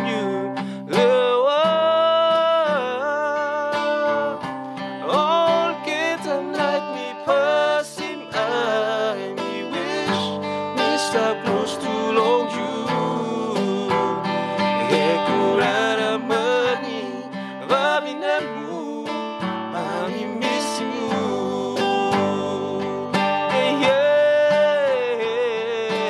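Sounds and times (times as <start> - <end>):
acoustic guitar strummed: 0.0 - 26.0
man singing: 0.0 - 26.0.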